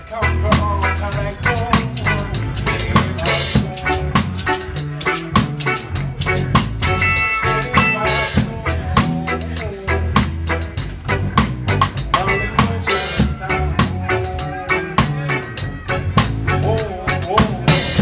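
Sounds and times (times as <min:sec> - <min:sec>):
live reggae band playing: 0:00.0 - 0:18.0.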